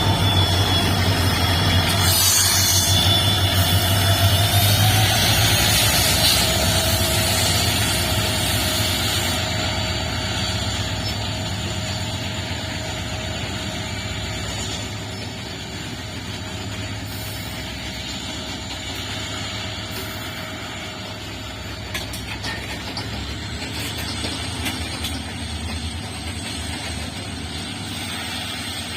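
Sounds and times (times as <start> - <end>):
diesel locomotives humming: 0.0 - 28.9.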